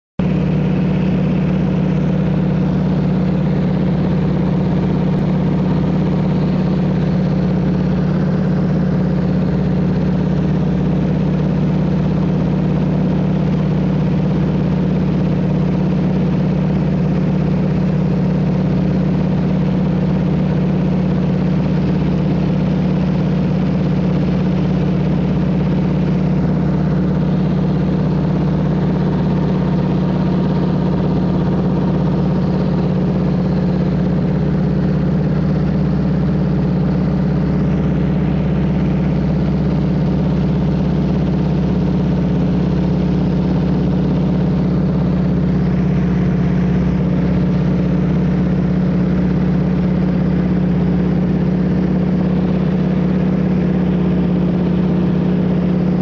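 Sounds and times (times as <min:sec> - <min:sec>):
plane engine and propeller: 0:00.2 - 0:56.0.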